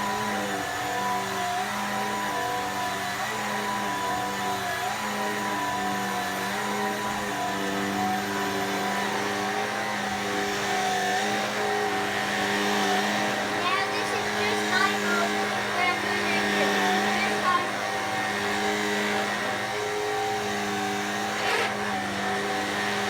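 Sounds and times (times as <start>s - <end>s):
stick vacuum motor humming: 0.0s - 23.0s.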